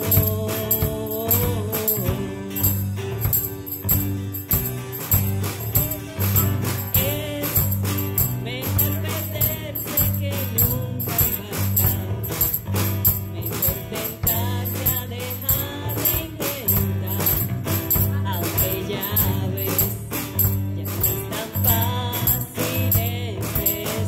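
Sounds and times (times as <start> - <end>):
woman singing: 0.0 - 2.9, 5.6 - 24.0
live band playing: 0.0 - 24.0
tambourine jingling: 0.0 - 24.0.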